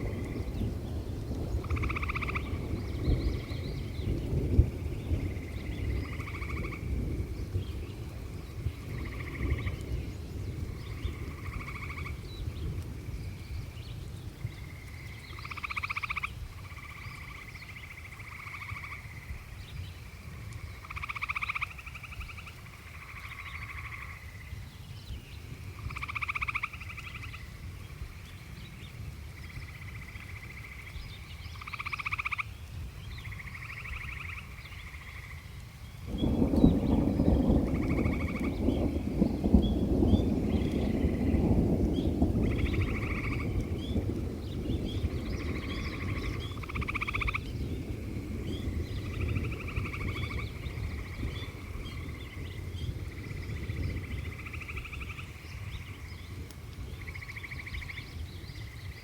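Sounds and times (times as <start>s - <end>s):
frogs trilling: 0.0s - 13.7s, 14.4s - 59.0s.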